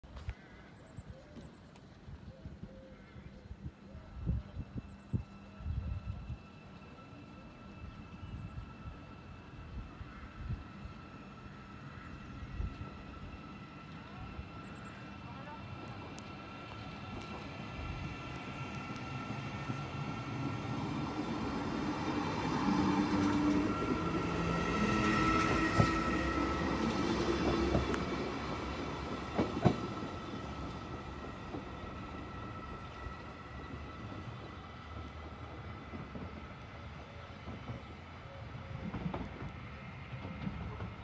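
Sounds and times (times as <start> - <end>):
electric train whine: 0.6 - 41.0
train rumble: 3.5 - 41.0.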